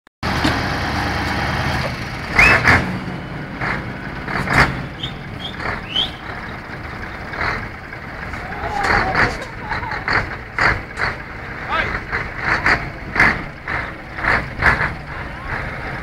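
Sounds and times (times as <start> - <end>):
truck diesel engine running: 0.2 - 16.0.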